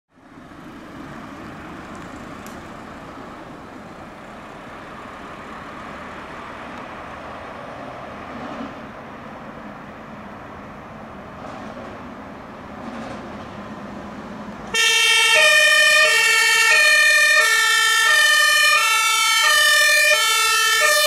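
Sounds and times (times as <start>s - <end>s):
fire engine diesel rumble: 0.1s - 21.0s
tyre and road noise: 0.1s - 21.0s.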